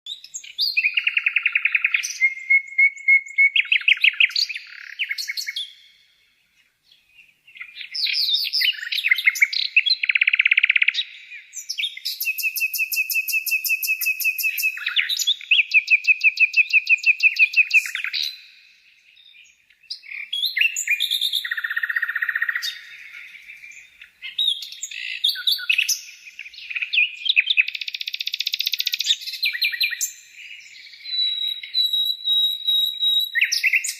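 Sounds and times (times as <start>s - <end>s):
songbird singing trills: 0.1s - 33.9s.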